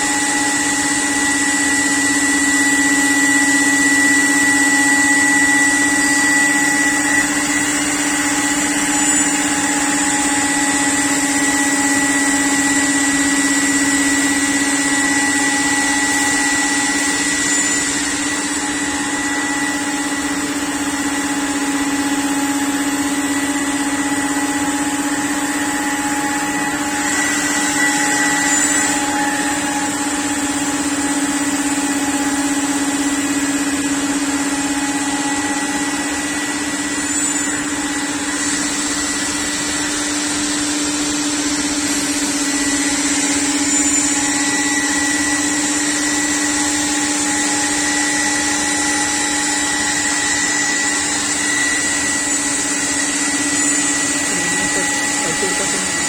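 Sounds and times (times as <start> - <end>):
router whining over hiss: 0.0 - 56.0.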